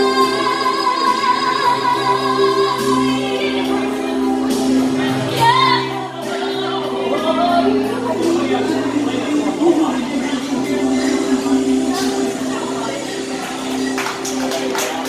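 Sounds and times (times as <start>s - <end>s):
woman singing into a microphone: 0.0s - 13.4s
backing track accompaniment: 0.0s - 15.0s.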